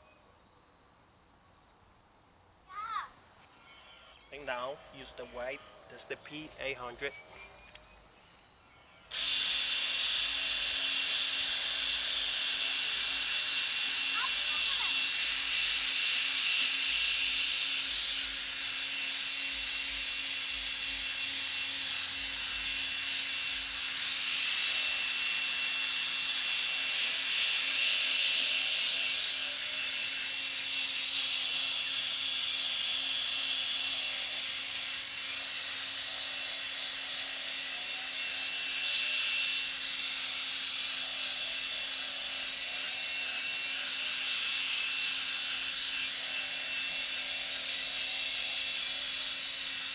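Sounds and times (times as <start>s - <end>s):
drill motor hum: 9.1s - 49.9s.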